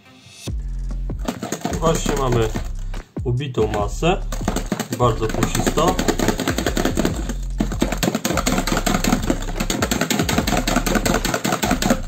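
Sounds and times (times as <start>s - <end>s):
whisk clicking against plastic bowl: 1.2s - 2.7s, 3.7s - 12.0s.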